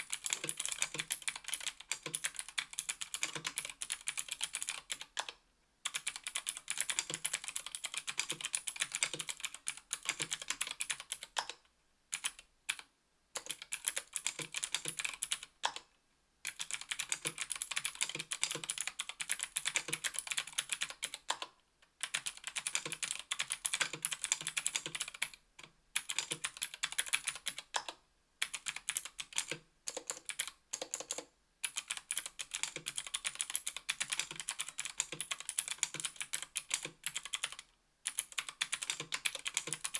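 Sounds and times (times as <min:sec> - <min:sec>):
clicky keyboard typing: 0:00.0 - 0:11.6, 0:12.2 - 0:39.9.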